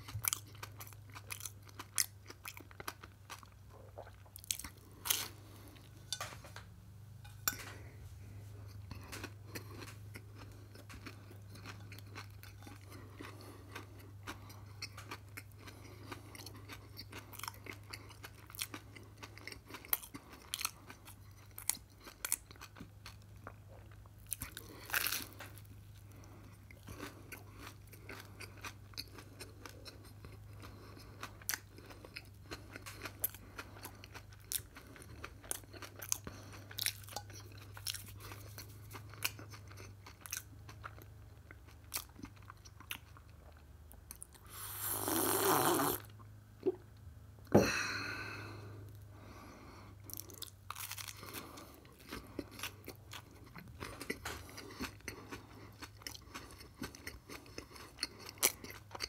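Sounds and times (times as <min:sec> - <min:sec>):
crunching and chewing toast: 0:00.0 - 0:06.7, 0:07.3 - 0:45.4, 0:48.6 - 0:59.0.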